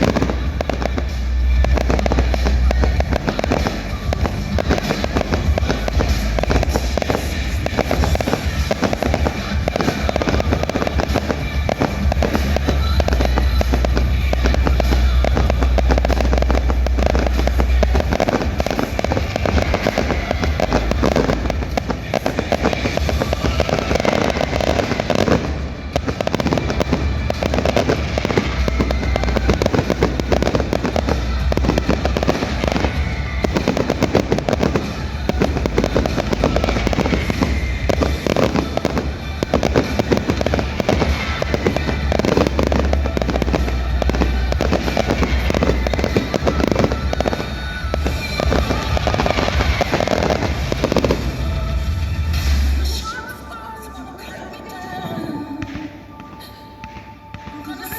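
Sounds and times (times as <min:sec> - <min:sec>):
loud music with heavy bass: 0:00.0 - 0:55.3
fireworks bursting and crackling: 0:00.0 - 0:57.9.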